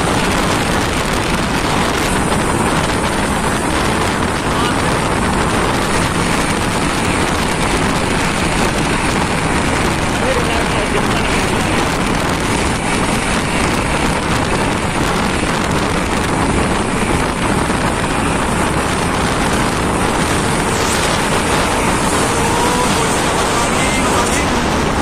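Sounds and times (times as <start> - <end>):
truck engine and tyres passing: 0.0 - 25.0.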